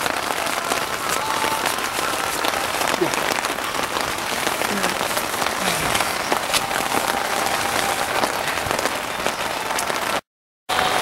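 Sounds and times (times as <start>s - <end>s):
rain on a tent: 0.0s - 11.0s.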